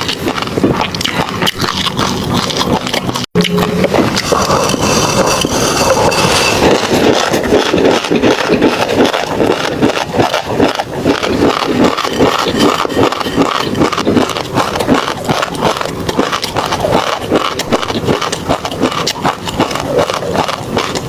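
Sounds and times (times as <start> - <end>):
wet crunchy chewing: 0.0 - 21.0.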